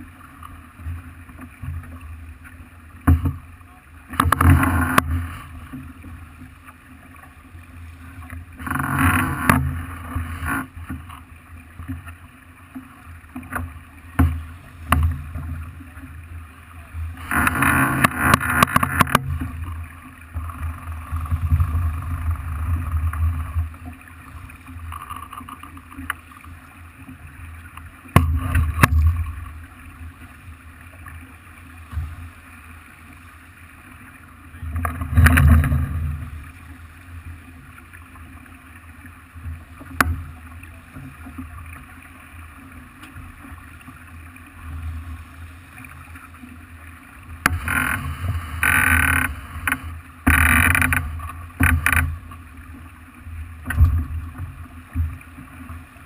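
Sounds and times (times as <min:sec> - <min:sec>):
water splashing along hull: 0:00.0 - 0:56.0.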